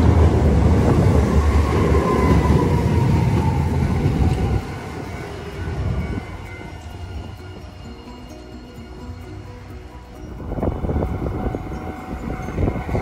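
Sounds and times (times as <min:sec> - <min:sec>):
wind buffeting microphone: 0:00.0 - 0:07.9, 0:10.0 - 0:13.0
tram wheels rumbling on rail: 0:00.0 - 0:13.0.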